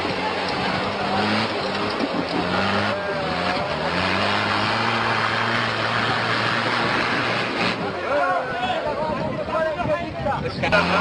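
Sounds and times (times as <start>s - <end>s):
engine running hard under load: 0.0s - 11.0s.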